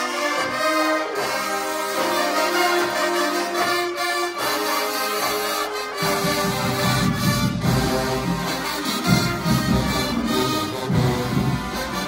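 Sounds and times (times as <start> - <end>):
marching band playing brass music: 0.0 - 12.0.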